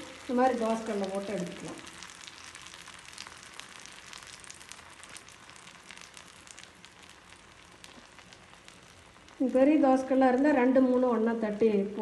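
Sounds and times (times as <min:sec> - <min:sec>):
flatbread sizzling in ghee: 0:00.0 - 0:12.0.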